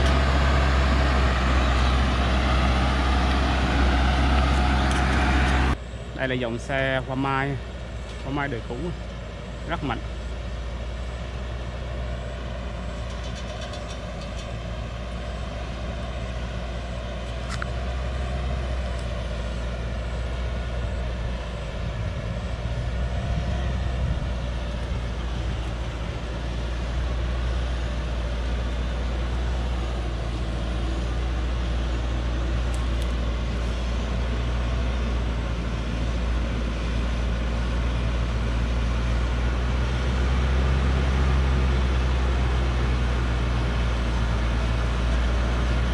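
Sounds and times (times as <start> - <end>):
diesel truck engine labouring: 0.0 - 45.9.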